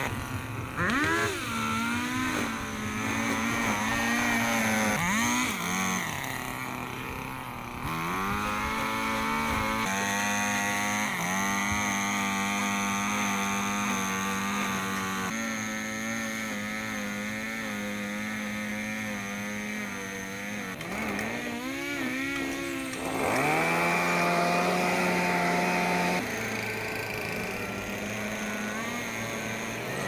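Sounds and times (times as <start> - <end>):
string trimmer engine running: 0.0 - 30.0.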